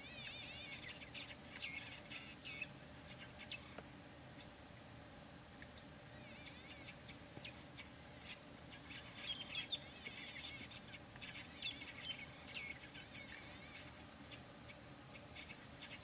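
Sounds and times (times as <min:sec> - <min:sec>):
small birds chirping: 0:00.0 - 0:16.0
thin steady high whine: 0:00.0 - 0:16.0.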